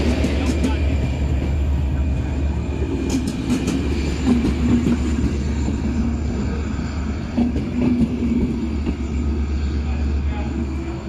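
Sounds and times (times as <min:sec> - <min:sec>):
train coaches rumbling past: 0:00.0 - 0:11.0.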